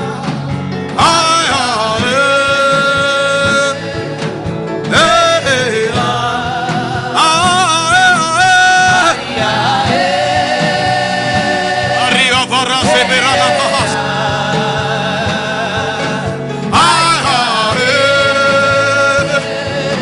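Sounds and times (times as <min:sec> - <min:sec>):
person singing gospel: 0:00.0 - 0:20.0
sustained instrumental backing: 0:00.0 - 0:20.0.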